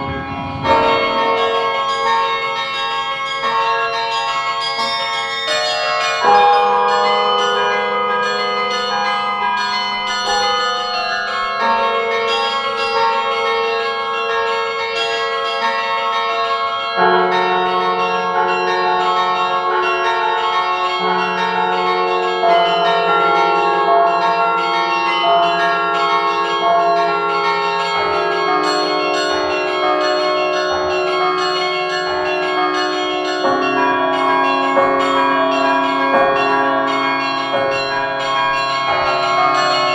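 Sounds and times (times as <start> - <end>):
carillon bells ringing: 0.0 - 39.9.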